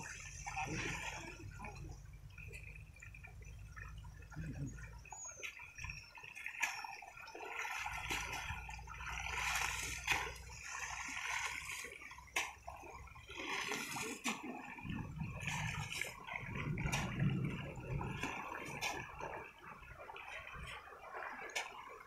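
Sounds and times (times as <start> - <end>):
water gurgling in a channel: 0.0 - 22.0.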